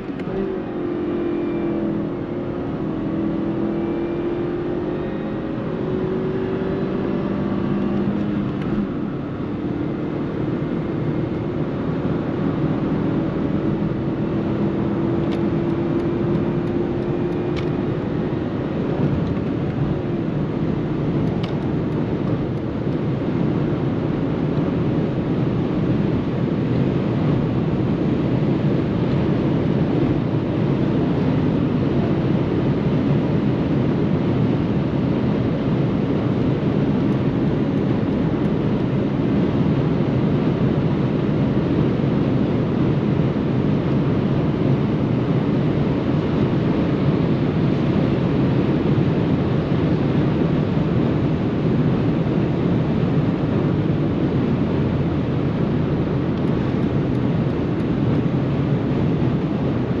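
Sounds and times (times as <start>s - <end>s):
car driving at speed: 0.0s - 60.0s.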